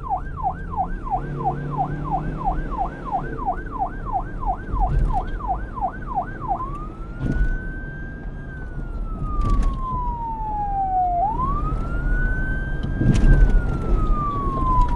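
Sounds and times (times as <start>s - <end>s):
police siren yelp and wail: 0.0s - 14.9s.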